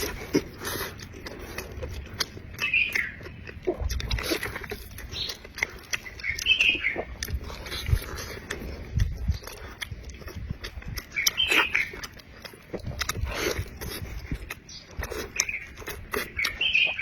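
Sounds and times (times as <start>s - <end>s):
mouth clicks: 0.0s - 17.0s
squeaky mouth sounds: 0.0s - 17.0s
wet chewing and lip smacking: 0.0s - 17.0s.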